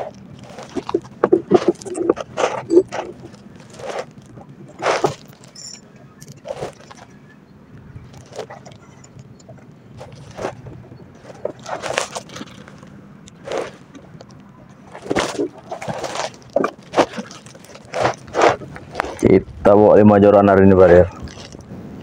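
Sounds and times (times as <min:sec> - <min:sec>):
fishing rods and reels being handled: 0:00.0 - 0:07.3, 0:07.9 - 0:19.4
low steady hum: 0:00.0 - 0:22.0.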